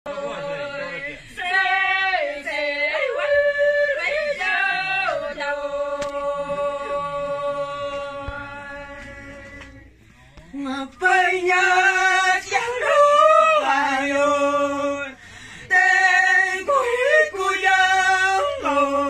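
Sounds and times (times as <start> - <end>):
women singing unaccompanied: 0.1 - 19.0.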